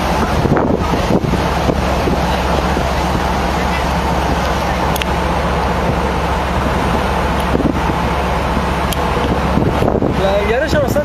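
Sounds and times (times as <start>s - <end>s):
low machinery hum: 0.0s - 11.0s
water rushing past hull: 0.0s - 11.0s
wind on microphone: 0.0s - 11.0s.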